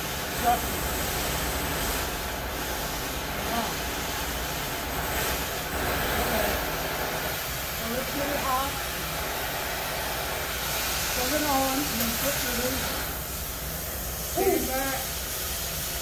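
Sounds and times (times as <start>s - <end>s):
cutting torch jet hissing: 0.0s - 16.0s.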